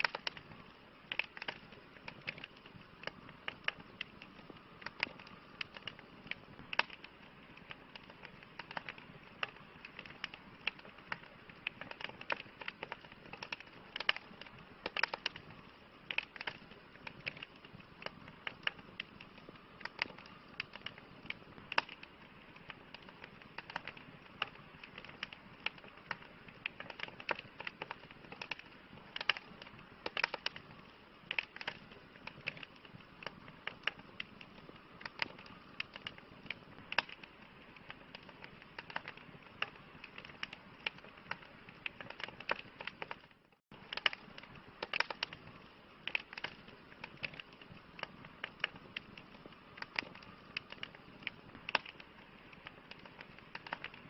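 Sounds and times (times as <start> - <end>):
soft steady hiss: 0.0 - 54.0
wood fire crackling: 0.0 - 54.0.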